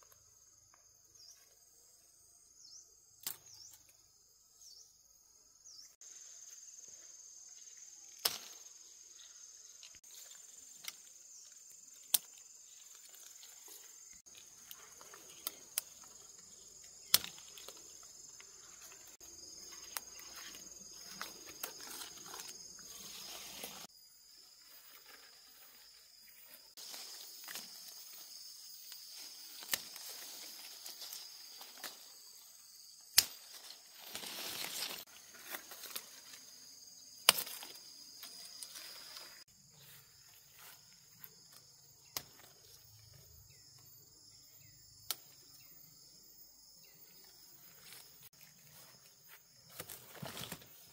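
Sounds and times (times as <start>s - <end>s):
insects chirring: 0.0s - 50.9s.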